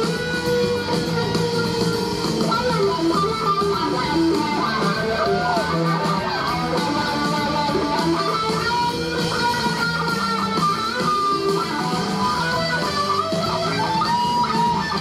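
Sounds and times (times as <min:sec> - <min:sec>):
drums: 0:00.0 - 0:15.0
electric guitars playing lead: 0:00.0 - 0:15.0.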